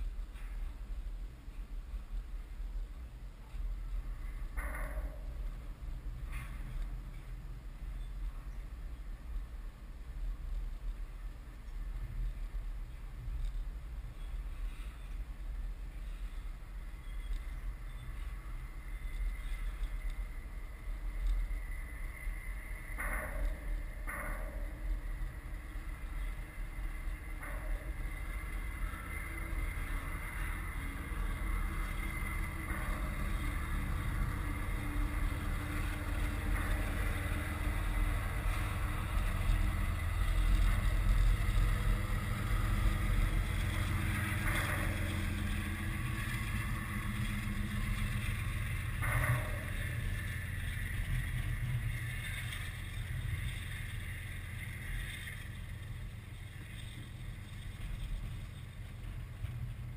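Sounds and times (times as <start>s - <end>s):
train clanks: 0.0s - 59.9s
train wheels rumbling on rail: 0.0s - 59.9s.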